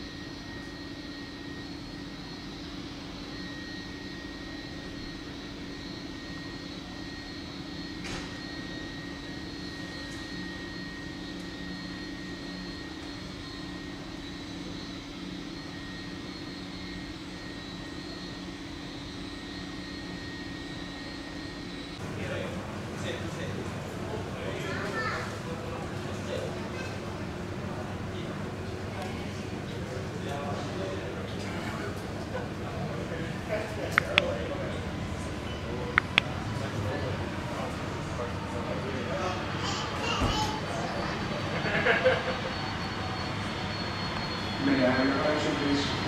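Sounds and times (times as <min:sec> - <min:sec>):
jet engines idling whine: 0:00.0 - 0:46.0.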